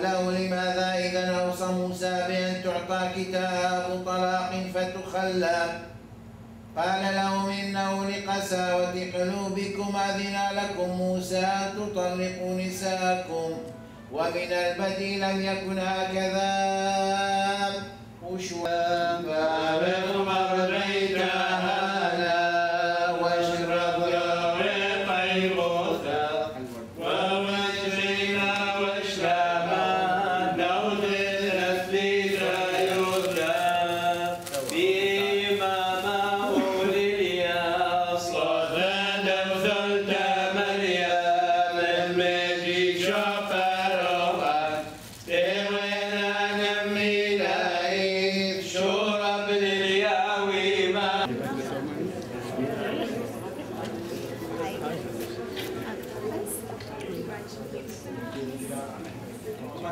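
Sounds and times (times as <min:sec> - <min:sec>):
liturgical chant singing: 0:00.0 - 0:06.0, 0:06.8 - 0:55.8.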